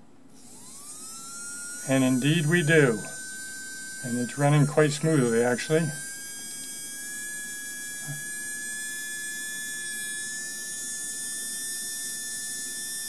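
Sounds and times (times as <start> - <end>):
small electric motor whining: 0.3 - 13.0.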